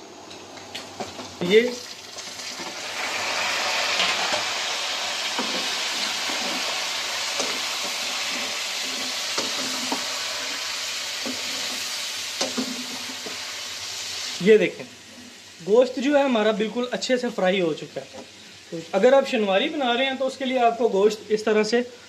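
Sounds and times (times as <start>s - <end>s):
tomatoes sizzling in hot fat: 0.2s - 22.0s.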